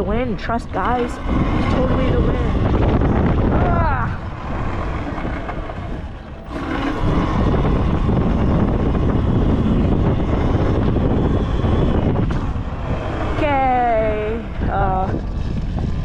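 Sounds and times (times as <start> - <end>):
pit bike engine running: 0.0 - 16.0
wind rushing over microphone: 0.0 - 16.0.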